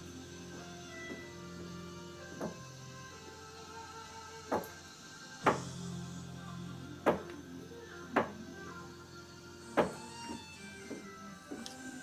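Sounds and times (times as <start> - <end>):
soft sustained music: 0.0 - 12.0.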